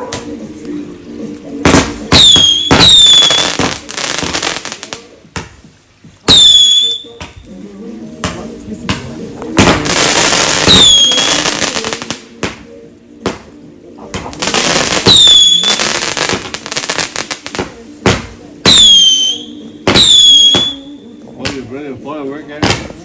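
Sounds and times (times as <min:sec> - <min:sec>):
fireworks crackling bursts: 0:00.1 - 0:23.0.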